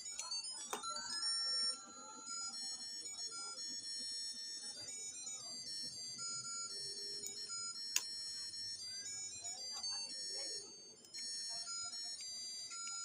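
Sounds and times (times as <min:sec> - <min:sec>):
beeping electronic melody: 0:00.0 - 0:13.0.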